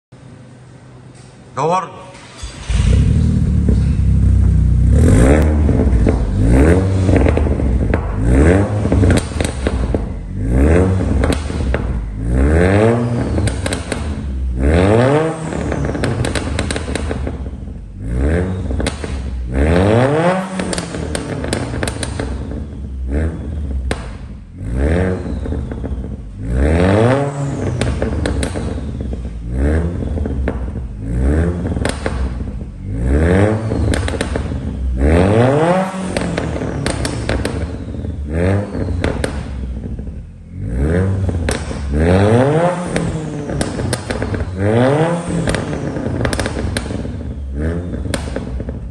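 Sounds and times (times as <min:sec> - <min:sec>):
car engine revving: 0:02.2 - 0:48.9
exhaust crackles and pops: 0:02.2 - 0:48.9.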